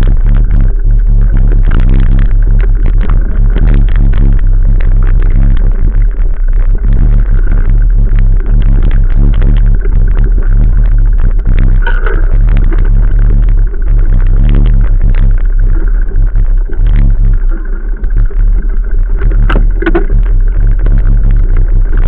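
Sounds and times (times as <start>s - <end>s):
low hum: 0.0s - 22.0s
wind rumble on microphone: 0.0s - 22.0s.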